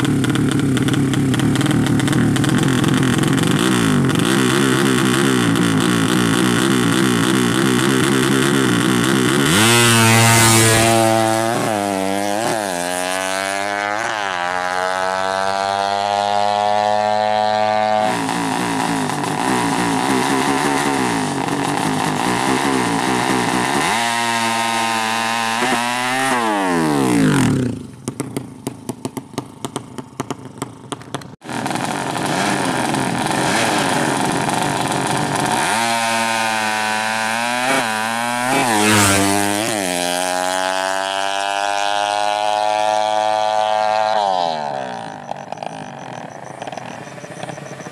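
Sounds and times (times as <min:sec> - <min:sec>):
engine crackles: 0:00.0 - 0:47.9
motorcycle engine revving: 0:00.0 - 0:47.9.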